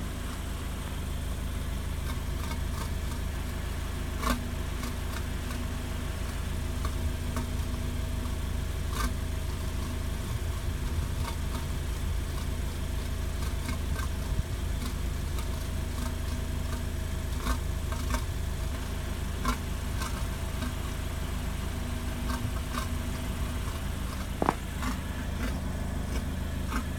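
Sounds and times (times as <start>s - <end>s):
exhaust idling low hum: 0.0s - 26.9s
sharp ticks from exhaust: 0.0s - 26.9s.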